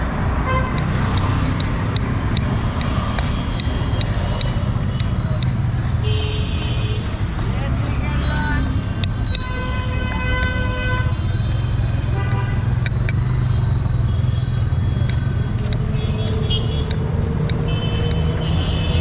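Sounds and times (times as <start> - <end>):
traffic engine rumble: 0.0 - 19.0.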